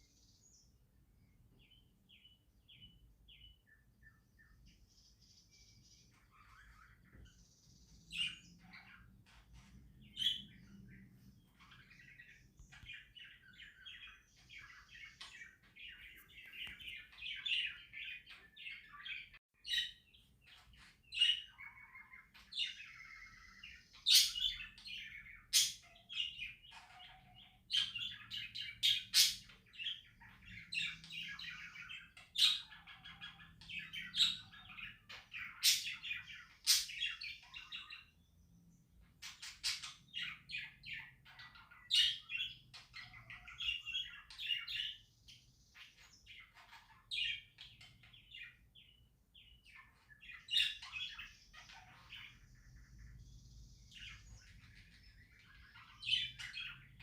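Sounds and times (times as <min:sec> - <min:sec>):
budgerigars chirping and warbling: 0:01.5 - 0:57.0.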